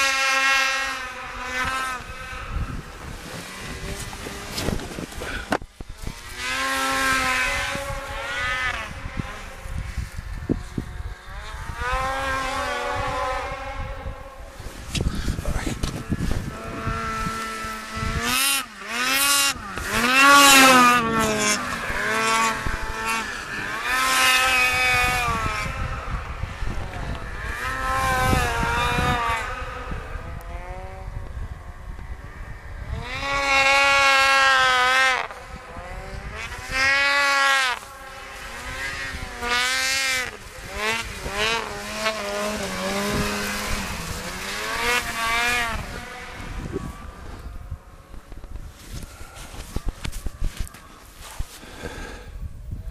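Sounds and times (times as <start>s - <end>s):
snowmobile engine revving: 0.0s - 52.4s.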